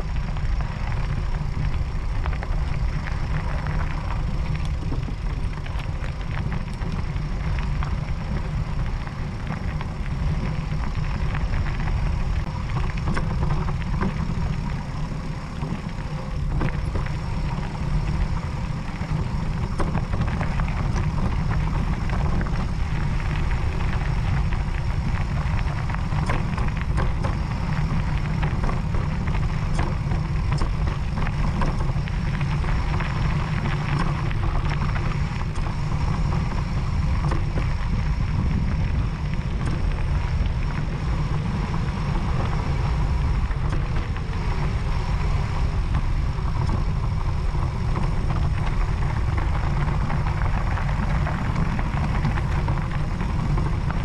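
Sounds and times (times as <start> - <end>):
small clicks and rattles: 0.0 - 54.0
tyres on loose gravel: 0.0 - 54.0
wind rumble on microphone: 0.0 - 54.0.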